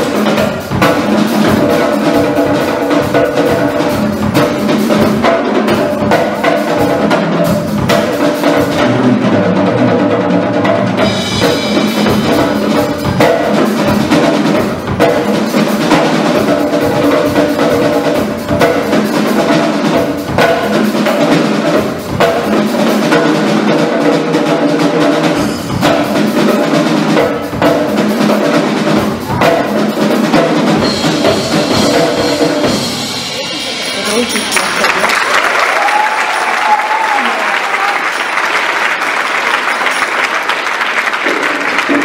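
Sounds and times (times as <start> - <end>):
drum kit percussion duet: 0.0 - 42.0.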